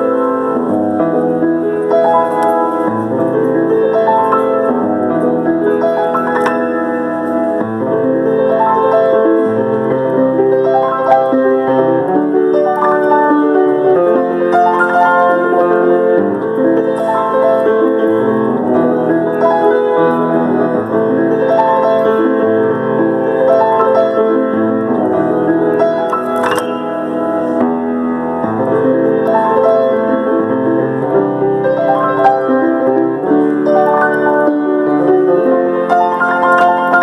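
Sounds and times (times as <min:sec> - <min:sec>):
piano playing: 0:00.0 - 0:37.0.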